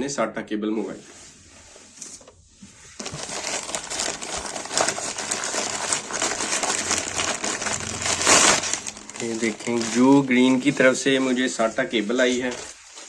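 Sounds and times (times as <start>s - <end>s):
packaging crinkling and rustling: 2.0s - 13.0s.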